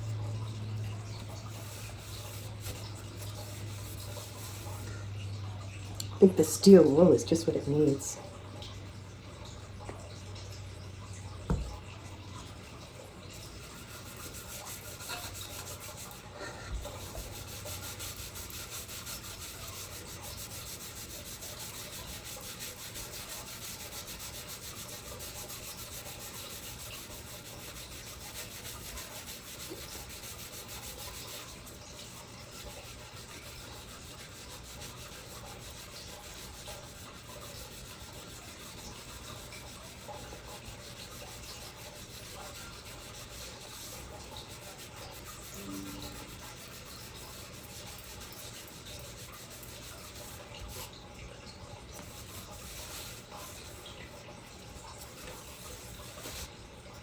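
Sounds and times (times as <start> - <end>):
steel wool scrubbing metal: 1.0 - 5.0, 12.5 - 51.0, 51.9 - 56.5.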